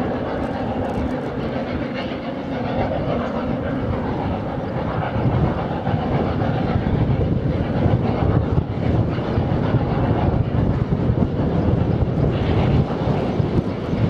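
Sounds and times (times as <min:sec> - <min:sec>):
steam locomotive rumbling uphill: 0:00.0 - 0:14.0.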